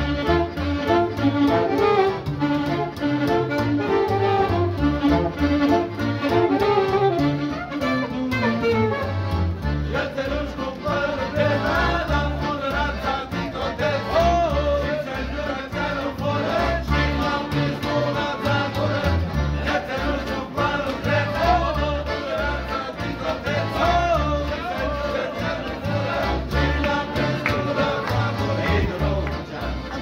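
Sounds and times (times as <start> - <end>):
street band playing: 0.0 - 30.0.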